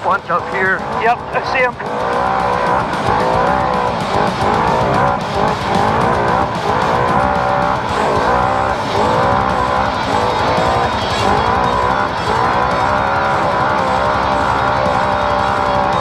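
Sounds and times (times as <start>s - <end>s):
music playing: 0.0s - 16.0s
utv engine revving: 0.0s - 16.0s.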